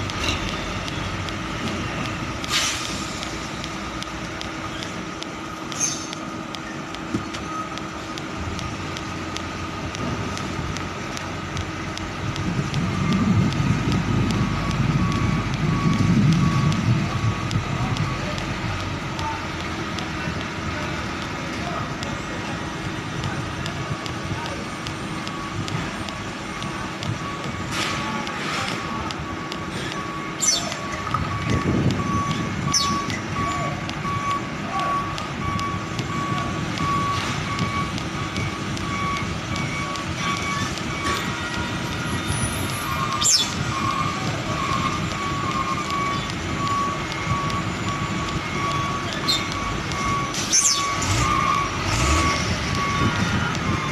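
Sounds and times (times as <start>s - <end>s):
truck engine rumbling: 0.0s - 53.9s.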